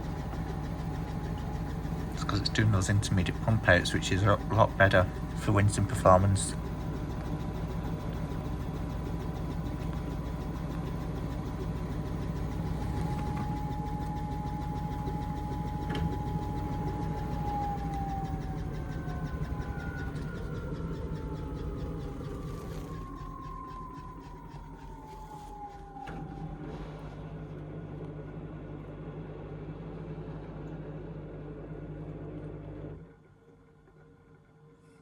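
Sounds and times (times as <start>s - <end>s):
washing machine spinning: 0.0s - 34.6s.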